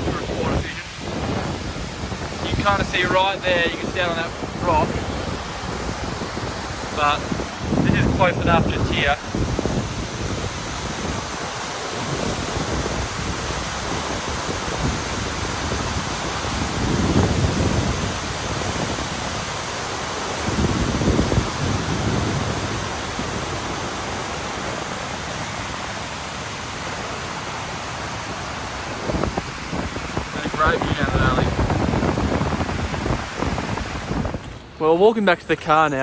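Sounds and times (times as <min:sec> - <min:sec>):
waterfall rushing: 0:00.0 - 0:34.8
wind buffeting microphone: 0:00.0 - 0:34.8.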